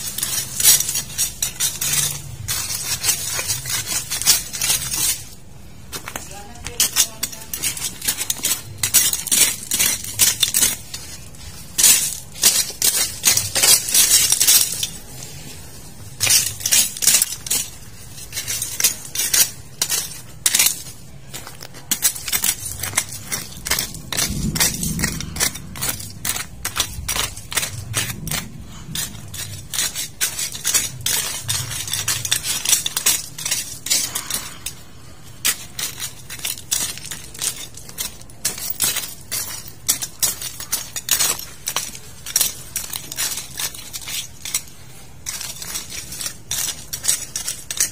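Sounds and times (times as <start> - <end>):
hard objects clinking and scraping: 0.0 - 47.9.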